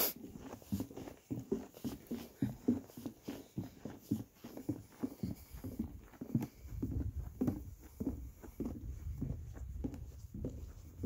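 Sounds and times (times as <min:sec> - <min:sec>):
footsteps on wooden boardwalk: 0:00.0 - 0:11.0.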